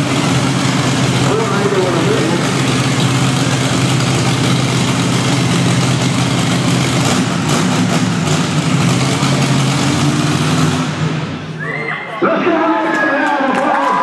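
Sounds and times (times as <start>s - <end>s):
truck engine idling loudly: 0.0s - 11.6s.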